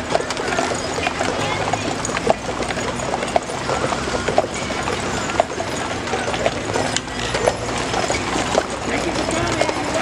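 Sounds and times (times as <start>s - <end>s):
horse hooves clip-clopping on asphalt: 0.0s - 10.0s.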